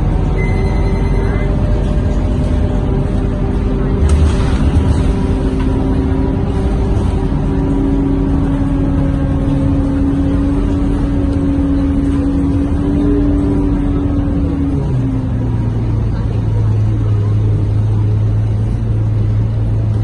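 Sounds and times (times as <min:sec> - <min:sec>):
bus engine and drivetrain drone: 0:00.0 - 0:20.0.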